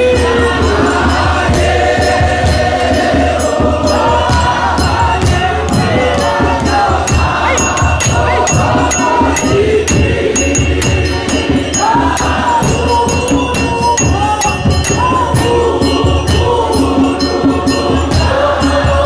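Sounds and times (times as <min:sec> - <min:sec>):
hand percussion beat: 0:00.0 - 0:19.0
women singing a hymn: 0:00.0 - 0:19.0.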